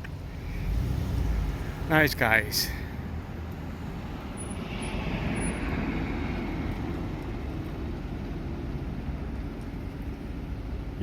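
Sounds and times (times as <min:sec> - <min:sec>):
road vehicle passing by: 0:00.0 - 0:11.0.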